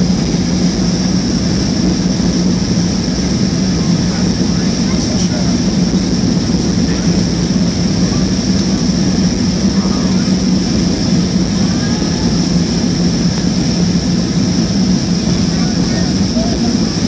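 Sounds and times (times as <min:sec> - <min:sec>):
jet engines droning: 0:00.0 - 0:17.0.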